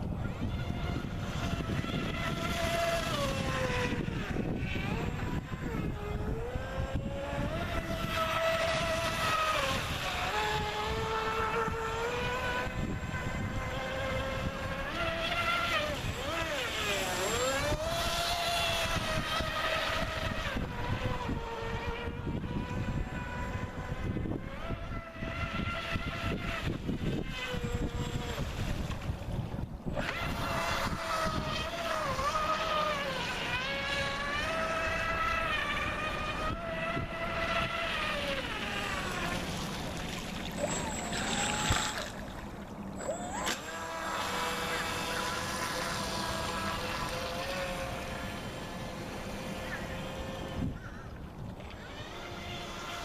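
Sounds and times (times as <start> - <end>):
rc boat motor whining: 0.0 - 53.0.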